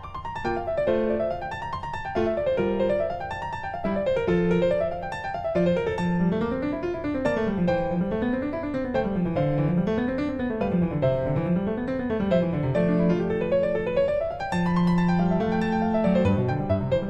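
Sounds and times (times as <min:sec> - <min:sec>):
arpeggiated piano music: 0:00.0 - 0:17.0.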